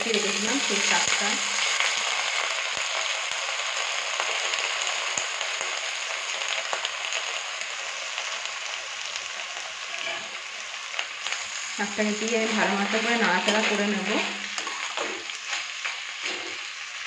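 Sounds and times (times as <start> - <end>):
spinach sizzling in hot oil: 0.0 - 17.0.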